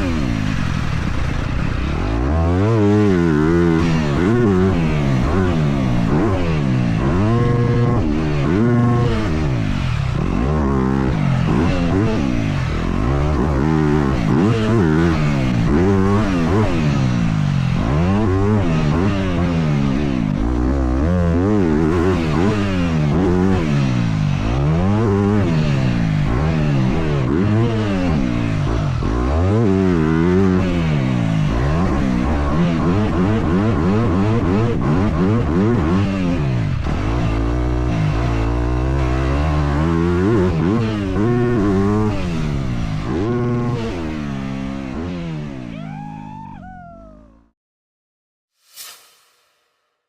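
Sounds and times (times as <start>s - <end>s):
dirt bike engine revving: 0.0s - 46.3s.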